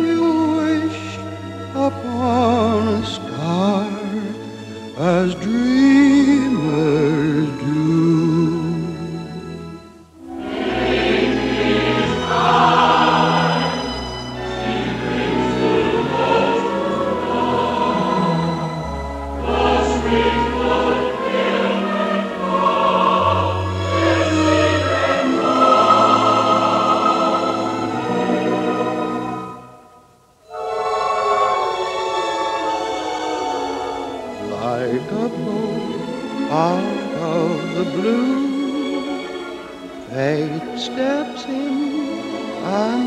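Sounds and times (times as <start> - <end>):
choir singing: 0.0 - 9.6, 10.2 - 43.0.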